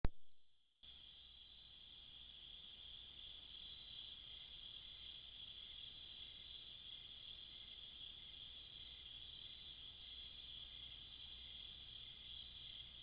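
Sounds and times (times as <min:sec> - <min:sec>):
night insects chirring: 0:00.8 - 0:13.0.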